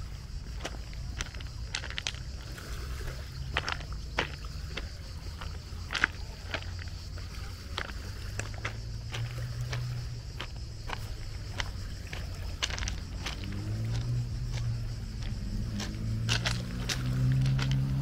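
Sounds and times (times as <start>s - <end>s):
footsteps on hard path: 0.0s - 18.0s.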